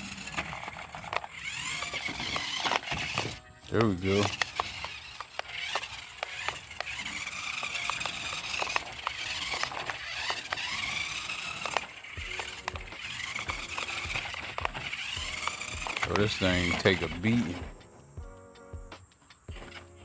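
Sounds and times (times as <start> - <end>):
small electric motor whining: 0.0 - 18.4, 19.4 - 20.0
ticks and clicks: 0.0 - 20.0.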